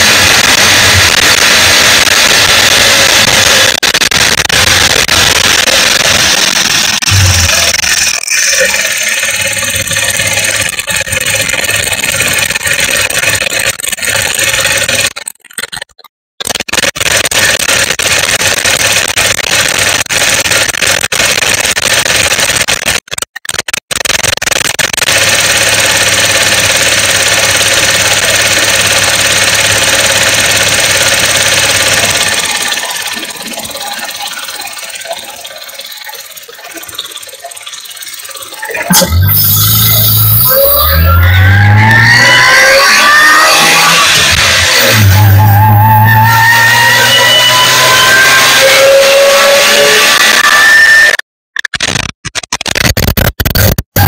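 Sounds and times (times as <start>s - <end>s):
supercharged car engine running: 0.0s - 15.9s, 16.6s - 51.1s.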